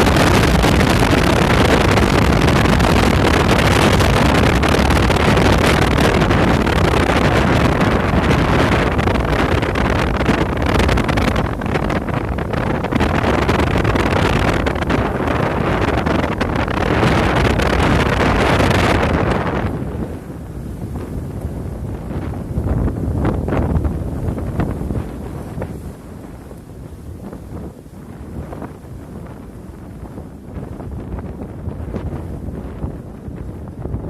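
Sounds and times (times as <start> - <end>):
boat engine rumble: 0.0 - 34.0
water noise: 0.0 - 34.0
wind buffeting microphone: 0.0 - 34.0.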